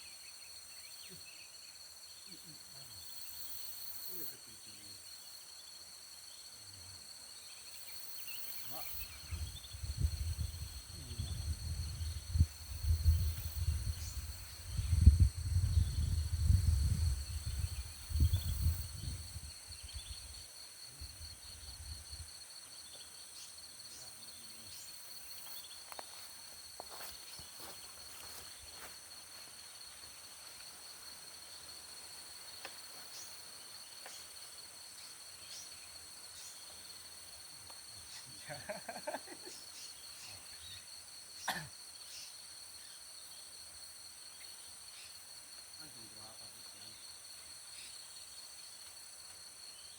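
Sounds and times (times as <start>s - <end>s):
insects buzzing: 0.0s - 49.9s.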